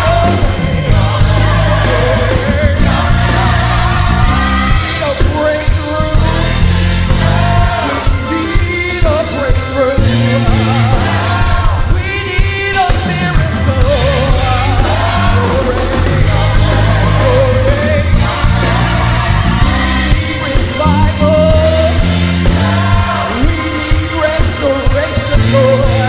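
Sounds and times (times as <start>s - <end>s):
live band with bass line: 0.0s - 26.0s
person singing gospel with vibrato: 0.0s - 26.0s.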